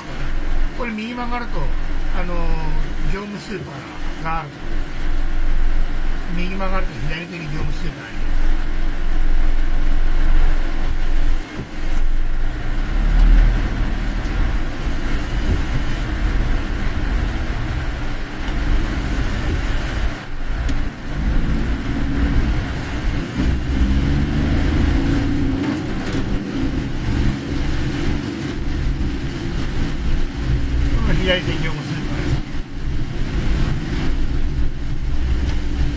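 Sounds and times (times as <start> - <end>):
car road noise low rumble: 0.0 - 35.9
tyres hissing on wet road: 0.0 - 35.9.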